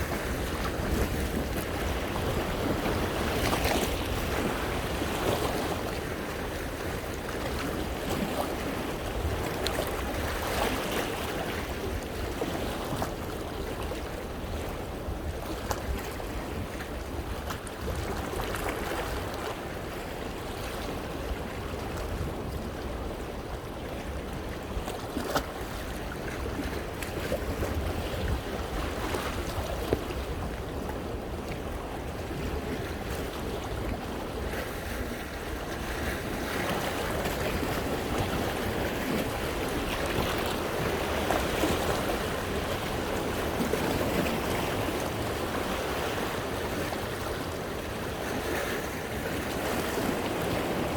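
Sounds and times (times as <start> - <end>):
wind rumble on microphone: 0.0 - 50.9.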